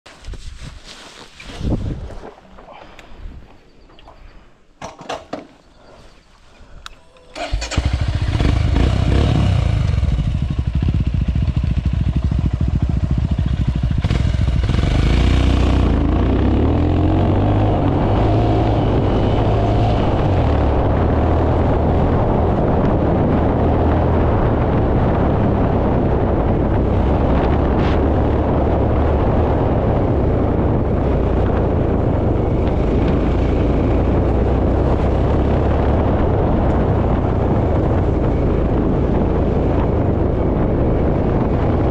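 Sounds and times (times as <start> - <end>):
motorcycle engine starting and running: 7.2 - 41.9.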